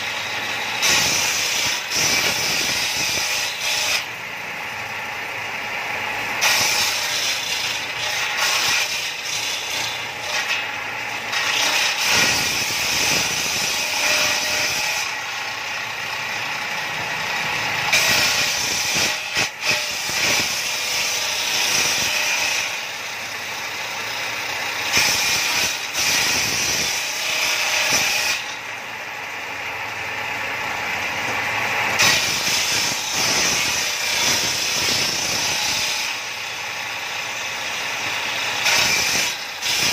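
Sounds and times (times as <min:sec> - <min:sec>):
saw cutting wood hissing: 0:00.0 - 0:39.9
table saw motor and blade: 0:00.0 - 0:39.9.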